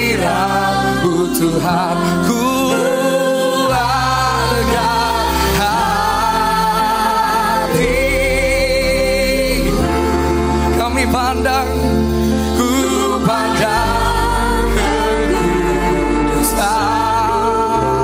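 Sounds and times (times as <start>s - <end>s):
man singing slow worship song: 0.0s - 18.0s.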